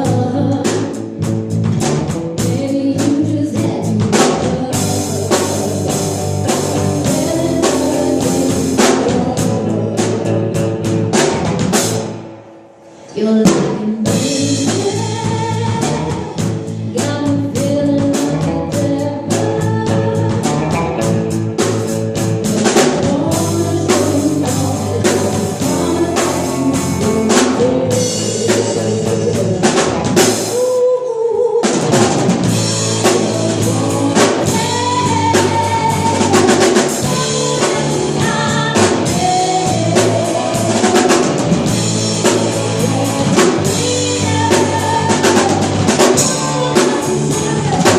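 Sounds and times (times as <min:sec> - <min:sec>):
person singing: 0:00.0 - 0:01.2, 0:02.4 - 0:10.9, 0:13.0 - 0:47.9
drum kit beat: 0:00.0 - 0:12.4, 0:13.4 - 0:30.8, 0:31.6 - 0:47.9
bass: 0:00.0 - 0:47.9
guitar: 0:00.0 - 0:47.9.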